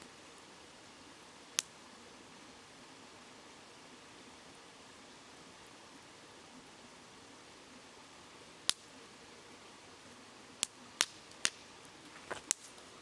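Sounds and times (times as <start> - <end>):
campfire crackling and popping: 0.0 - 3.7, 4.3 - 13.0
babbling river: 0.0 - 13.0.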